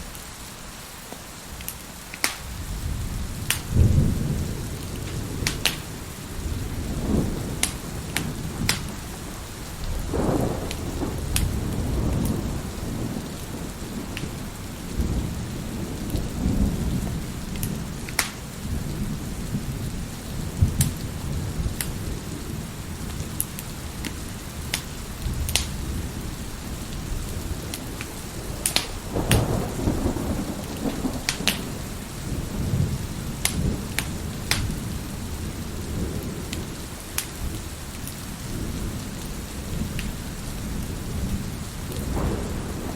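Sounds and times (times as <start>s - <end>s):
fire crackling and popping: 0.0s - 42.9s
heavy rain: 0.0s - 42.9s
thunder rumbling: 2.3s - 42.9s.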